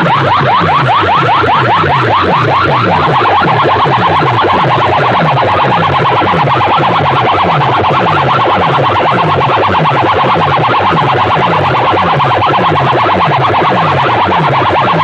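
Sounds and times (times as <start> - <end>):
electronic dance music: 0.0 - 15.0
pulsing bass line: 0.0 - 15.0
rising siren-like synth sweeps: 0.0 - 15.0.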